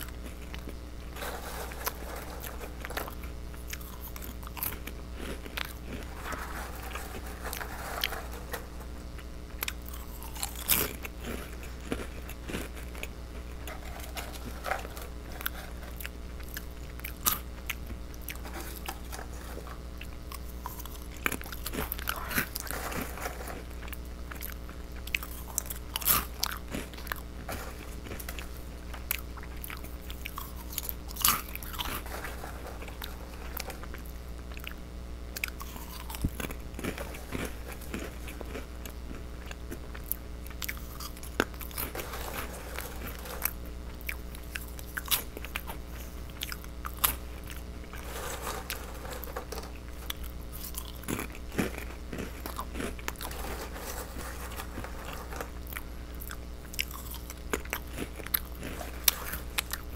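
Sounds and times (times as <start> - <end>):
person chewing crunchy crackers: 0.0 - 59.9.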